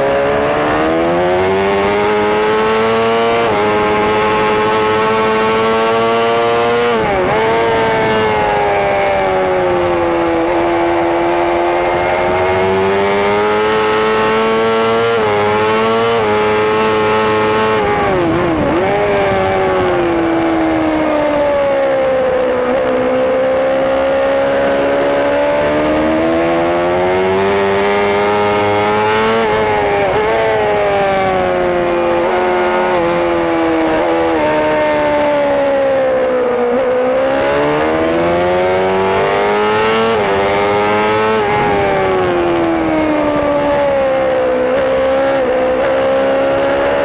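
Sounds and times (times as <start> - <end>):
motorbike engine at high revs: 0.0 - 47.0.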